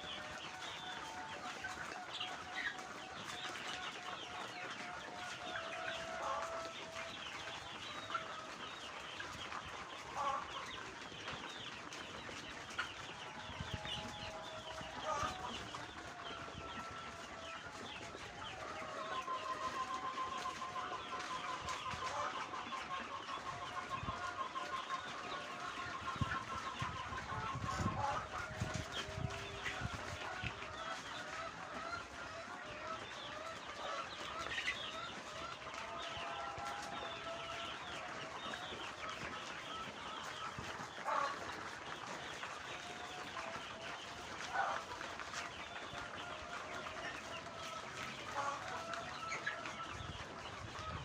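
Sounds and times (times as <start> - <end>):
chicken rapid trill: 0.0 - 51.0
chickens clucking: 0.0 - 51.0.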